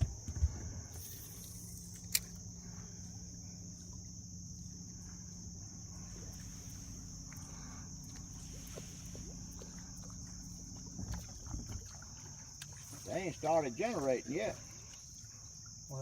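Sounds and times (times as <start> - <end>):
insect chorus droning: 0.0 - 16.0
low steady hum: 0.0 - 16.0.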